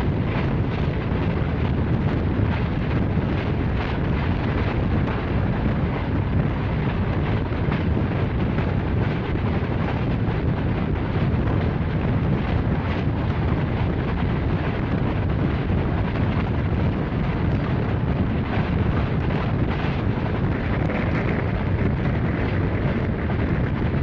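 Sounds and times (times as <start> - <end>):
rushing air: 0.0 - 24.0
train wheels rumbling on track: 0.0 - 24.0.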